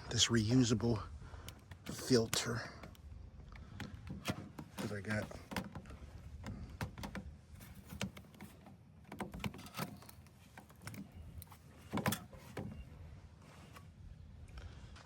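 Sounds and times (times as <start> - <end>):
hands handling plastic parts: 1.5 - 14.0.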